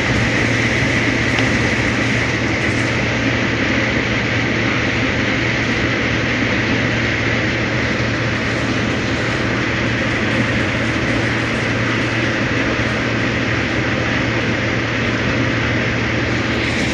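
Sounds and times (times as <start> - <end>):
engine drone: 0.0 - 16.9.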